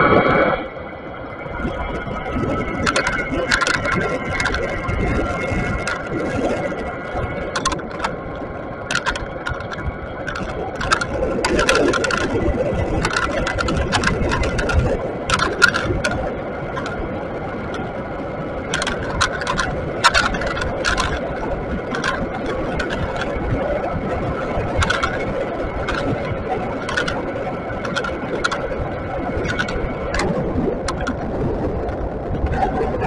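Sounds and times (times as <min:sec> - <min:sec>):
road rumble: 0:00.0 - 0:33.0
wind noise: 0:00.0 - 0:33.0
rattles and clicks over bumps: 0:01.4 - 0:33.0.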